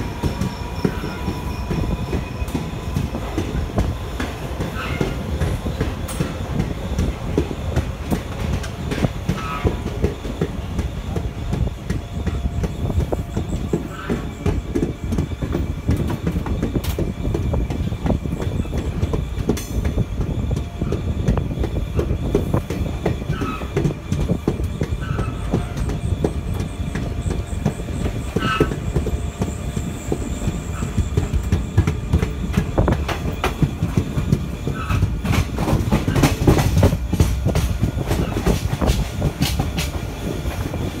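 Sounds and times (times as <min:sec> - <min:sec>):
high wheel squeals: 0:00.0 - 0:38.6
wheels clattering over rail joints: 0:00.0 - 0:40.9
train rumble: 0:00.0 - 0:41.0.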